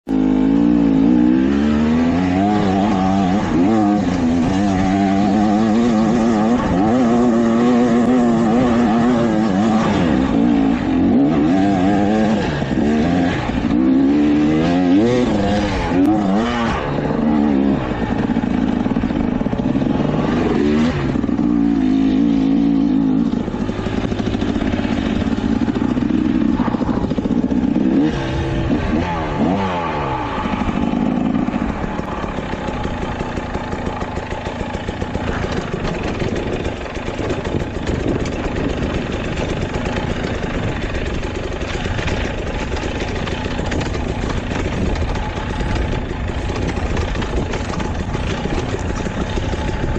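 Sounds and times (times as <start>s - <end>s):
dirt bike engine revving: 0.1s - 49.9s.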